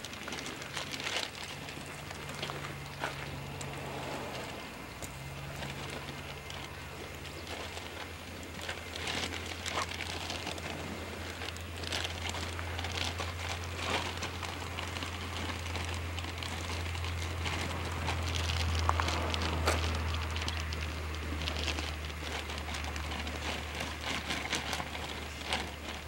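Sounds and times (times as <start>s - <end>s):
crackles and rustles: 0.0s - 26.0s
wind rumbling on microphone: 0.0s - 26.0s.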